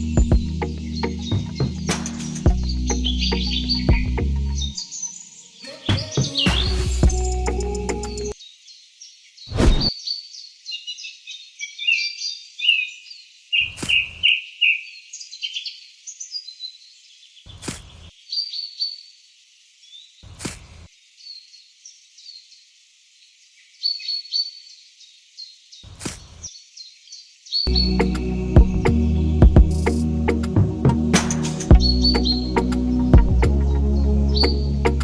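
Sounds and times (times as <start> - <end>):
birds chirping: 0.0 - 19.2, 23.5 - 35.0.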